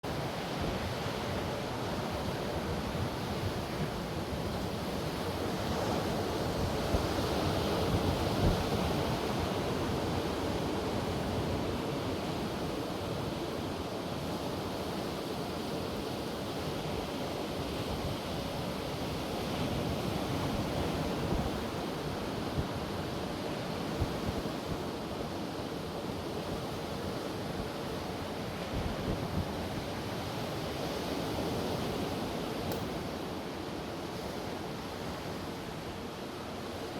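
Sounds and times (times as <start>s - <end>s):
ocean surf on beach: 0.0s - 36.9s.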